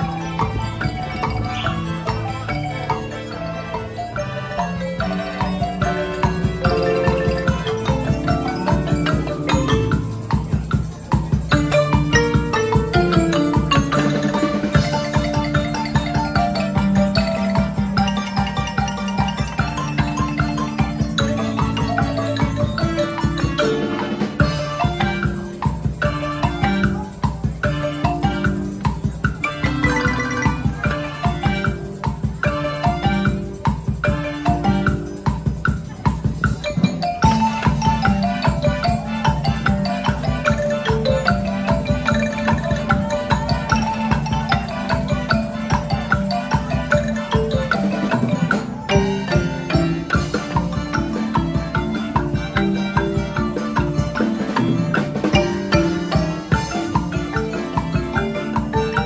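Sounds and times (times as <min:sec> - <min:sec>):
marimba band playing: 0:00.0 - 0:59.0
percussive beat: 0:00.0 - 0:59.0.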